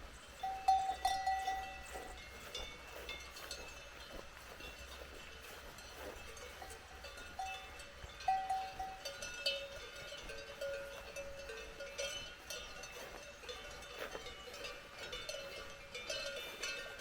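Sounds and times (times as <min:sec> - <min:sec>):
cowbells clanking: 0:00.0 - 0:17.0.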